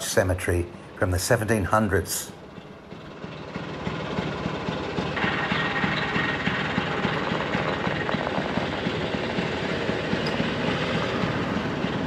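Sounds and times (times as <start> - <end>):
vehicle engine with rattle: 0.8 - 12.0.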